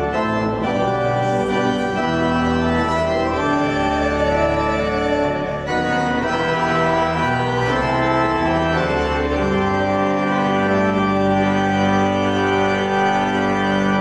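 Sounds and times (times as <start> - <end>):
church organ: 0.0 - 14.0.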